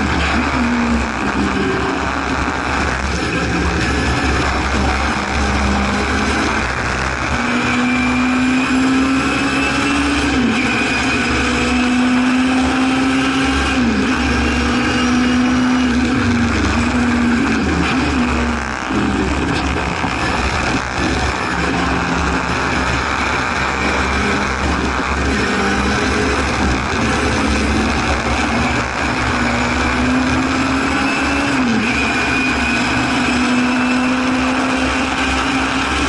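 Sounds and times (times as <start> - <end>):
race car engine at high revs: 0.0 - 36.0
wind and road noise: 0.0 - 36.0.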